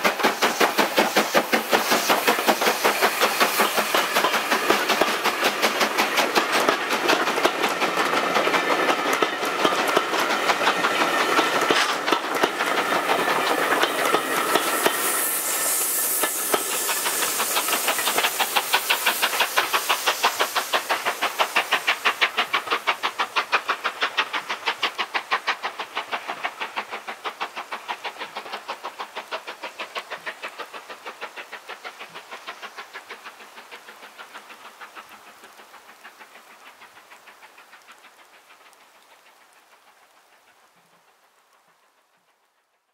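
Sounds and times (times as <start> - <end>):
steam hiss: 0.0 - 42.5
wheels on rail joints: 0.0 - 42.7
steam locomotive exhaust beats: 0.0 - 42.9.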